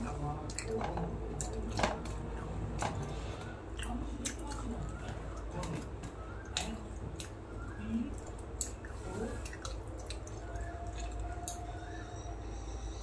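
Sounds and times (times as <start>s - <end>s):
wet squishy chewing: 0.0s - 12.1s.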